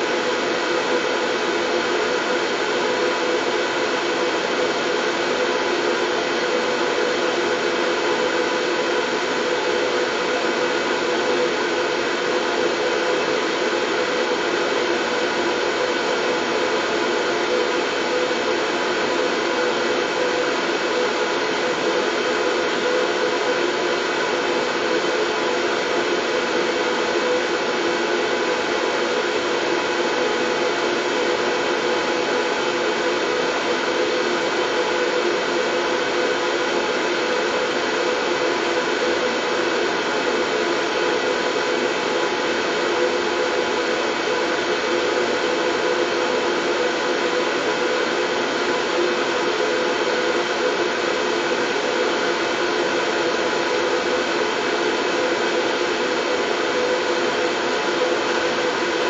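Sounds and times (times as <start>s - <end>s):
steady white noise: 0.0s - 59.0s.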